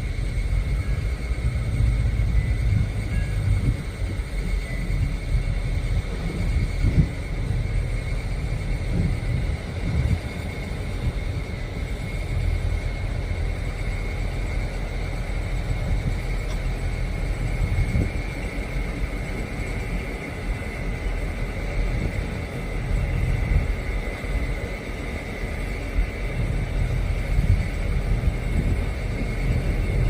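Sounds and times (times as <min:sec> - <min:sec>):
diesel locomotive rumbling: 0:00.0 - 0:30.0
high whine: 0:00.0 - 0:30.0.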